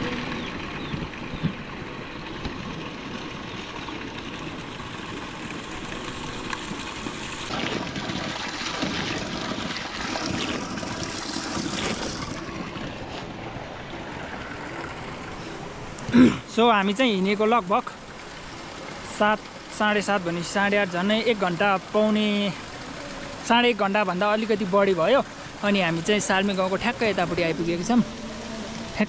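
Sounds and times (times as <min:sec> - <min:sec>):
water rushing: 0:00.0 - 0:29.0.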